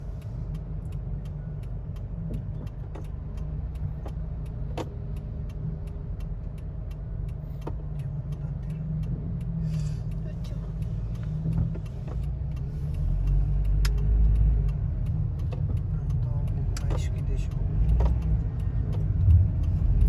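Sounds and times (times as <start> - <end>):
car engine and road rumble: 0.0 - 20.0
faint regular ticking: 0.0 - 20.0.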